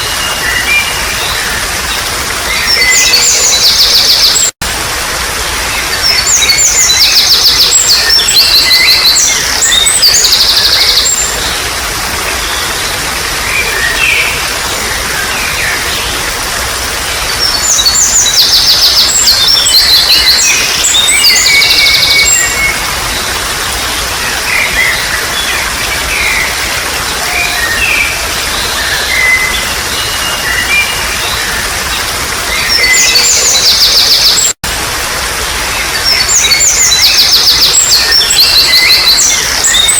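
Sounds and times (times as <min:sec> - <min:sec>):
birds chirping: 0:00.0 - 0:04.6, 0:05.6 - 0:34.6, 0:35.4 - 0:39.9
trickling water: 0:00.0 - 0:39.9.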